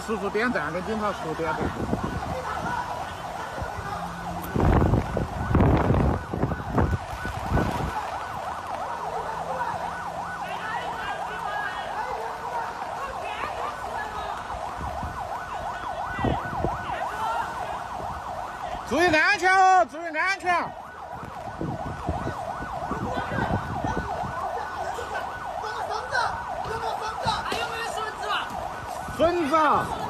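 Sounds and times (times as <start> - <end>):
siren yelping: 0.0 - 30.0.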